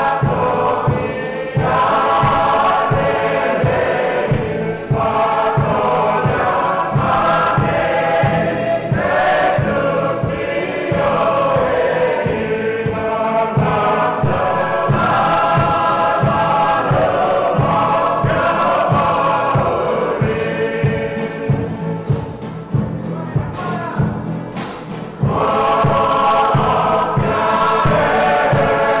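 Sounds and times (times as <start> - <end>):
choir singing in harmony: 0.0 - 23.4, 24.0 - 29.0
steady low beat: 0.0 - 29.0.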